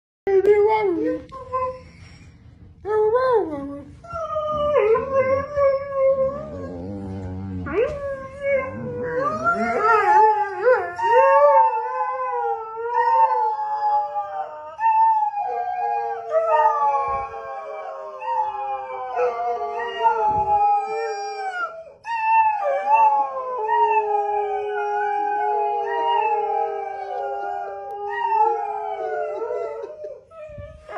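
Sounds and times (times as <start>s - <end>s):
dog howling: 4.3s - 30.2s.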